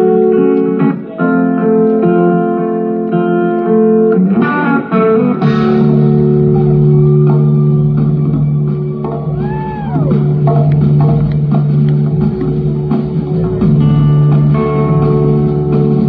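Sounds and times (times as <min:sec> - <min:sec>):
live band instrumental: 0:00.0 - 0:16.0
sliding electric guitar lines: 0:00.0 - 0:16.0.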